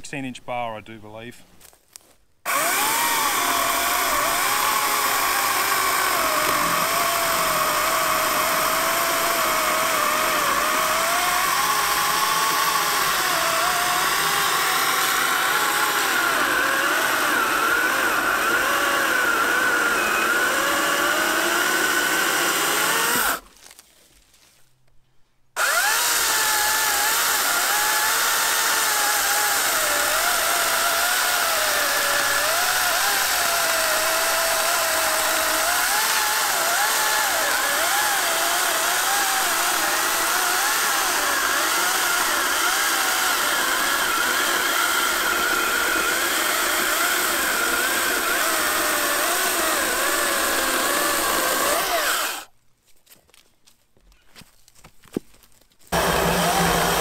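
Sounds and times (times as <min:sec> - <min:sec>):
battery chainsaw cutting log: 0:02.5 - 0:23.5, 0:25.6 - 0:52.5, 0:55.9 - 0:57.0.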